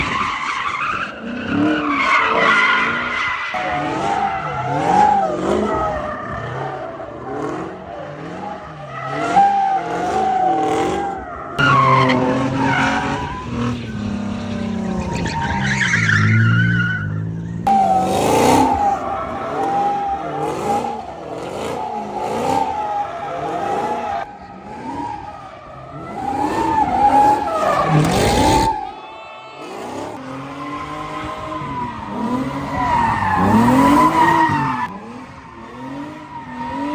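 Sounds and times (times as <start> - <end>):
car engines revving: 0.0 - 36.9
tires squealing: 0.0 - 36.9.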